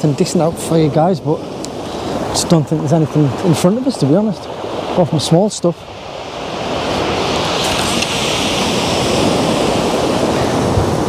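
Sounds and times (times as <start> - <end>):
sea waves breaking on shore: 0.0 - 11.0.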